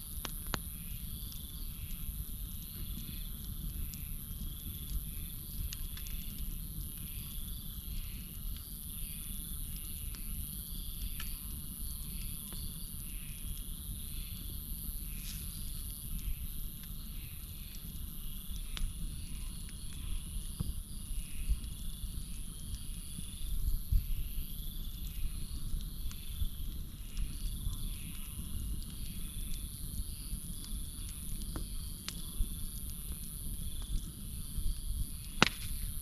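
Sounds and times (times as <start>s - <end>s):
campfire crackling and popping: 0.0s - 36.0s
crickets trilling: 0.0s - 36.0s.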